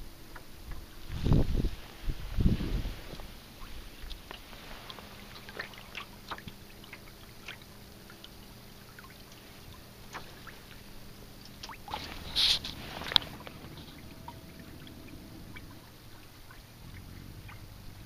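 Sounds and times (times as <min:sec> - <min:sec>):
water lapping against hull: 0:00.0 - 0:18.0
small splashes: 0:00.7 - 0:18.0.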